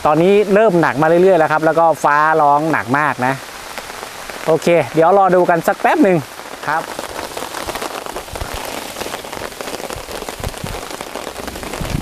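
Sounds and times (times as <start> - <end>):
heavy rain on tarp: 0.0 - 12.0.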